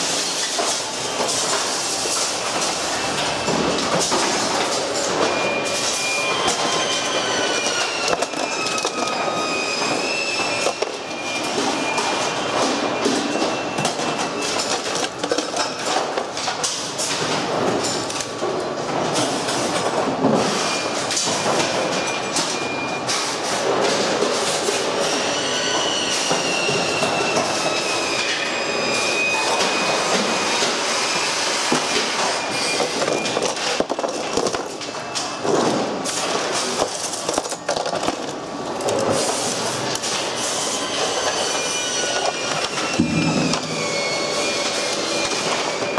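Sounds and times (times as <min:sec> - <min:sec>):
plastic parts clattering and scraping: 0:00.0 - 0:25.2, 0:29.0 - 0:45.9.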